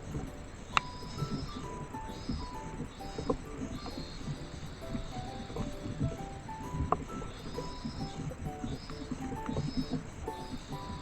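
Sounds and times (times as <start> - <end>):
simple melody over low accompaniment: 0.0 - 11.0.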